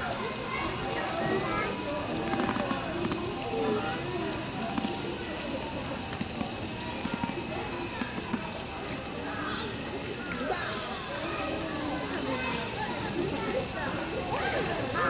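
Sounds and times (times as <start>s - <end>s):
shrill pulsing insect chorus: 0.0s - 15.0s.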